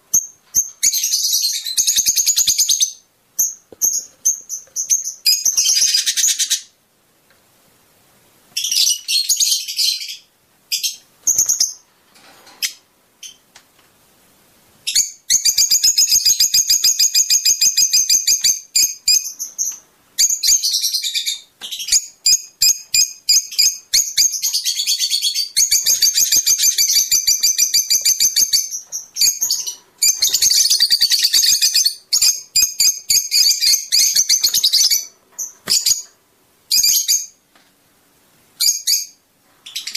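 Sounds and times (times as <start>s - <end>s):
lovebirds chirping: 0.1s - 6.8s, 8.5s - 11.9s, 14.8s - 37.4s, 38.6s - 39.9s.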